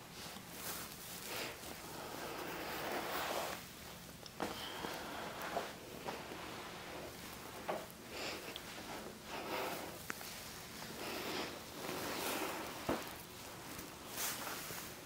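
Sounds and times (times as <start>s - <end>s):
faint rustling: 0.1s - 15.0s
soft breathing: 0.2s - 3.6s, 4.4s - 15.0s.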